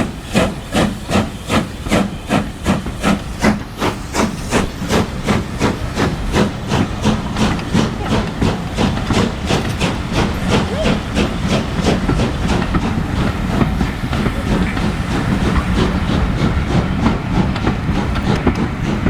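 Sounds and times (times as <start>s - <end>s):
steam locomotive exhaust chuffing: 0.0s - 19.0s.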